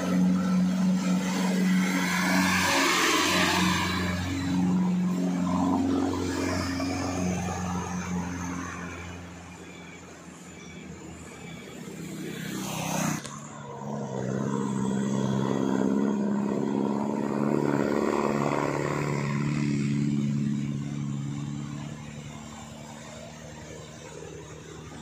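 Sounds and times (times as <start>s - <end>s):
bus engine droning: 0.0s - 25.0s
car passing: 0.0s - 25.0s.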